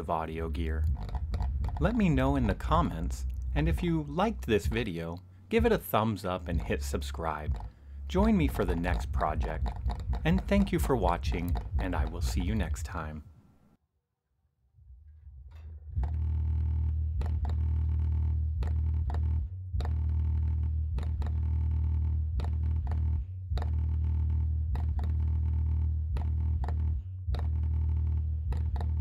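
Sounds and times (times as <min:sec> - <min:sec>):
deep bass line from subwoofer: 0:00.0 - 0:05.0, 0:05.6 - 0:13.1, 0:14.9 - 0:29.0.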